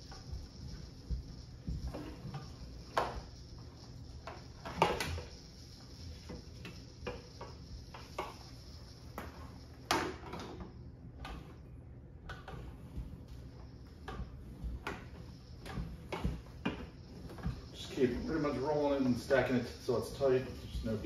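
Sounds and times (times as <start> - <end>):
hose reel knocks and clunks: 0.0 - 11.6, 13.9 - 21.0.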